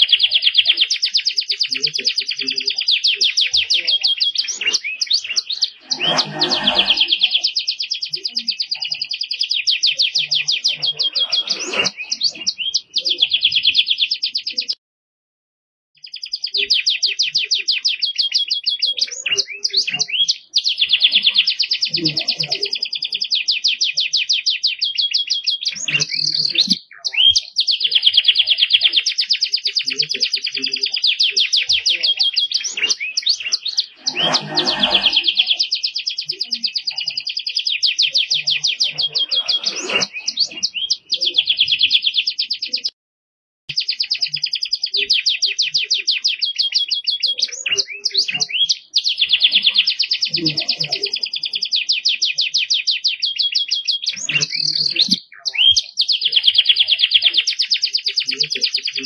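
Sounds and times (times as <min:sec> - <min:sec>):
canary singing in rapid trills: 0:00.0 - 0:14.8, 0:16.0 - 0:42.9, 0:43.7 - 0:59.0.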